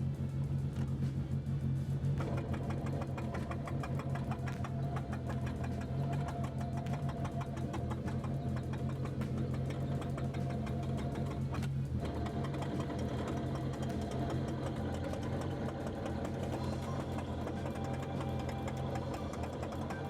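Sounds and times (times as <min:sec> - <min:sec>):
car engine idling: 0:00.0 - 0:20.0
rapid regular engine ticking: 0:00.0 - 0:20.0.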